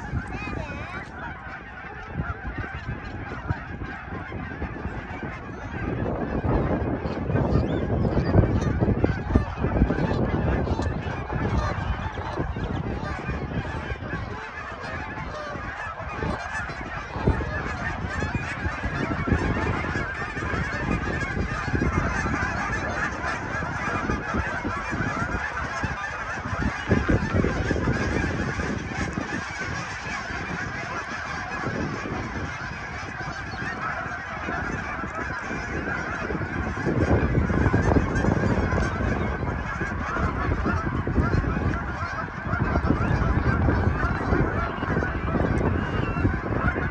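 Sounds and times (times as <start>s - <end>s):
flock of waterfowl calling: 0.0s - 46.9s.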